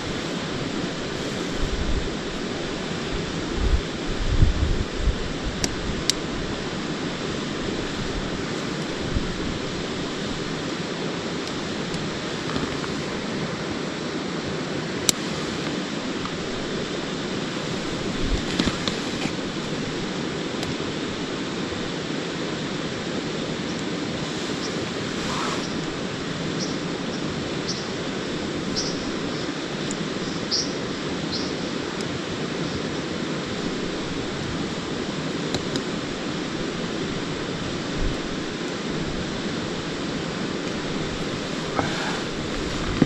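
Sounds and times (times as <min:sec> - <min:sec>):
river rushing over stones: 0:00.0 - 0:43.0.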